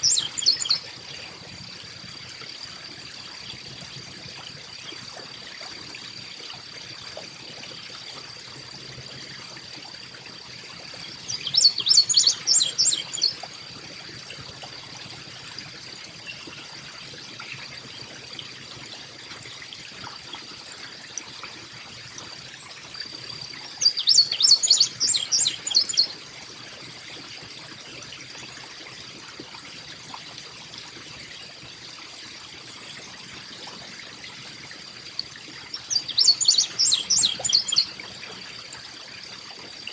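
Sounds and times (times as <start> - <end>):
soft trickle of water: 0.0 - 39.9.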